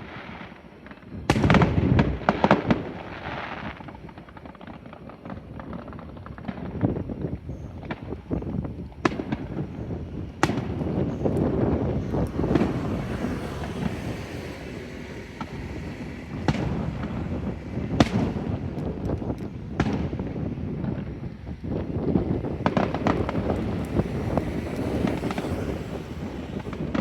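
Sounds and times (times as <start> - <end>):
fireworks crackling and popping: 0.0 - 27.0
loud fireworks bangs: 0.0 - 27.0.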